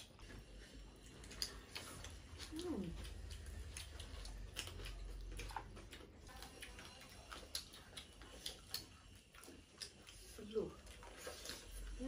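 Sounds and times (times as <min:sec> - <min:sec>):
people chewing and lip smacking: 0:00.0 - 0:12.0.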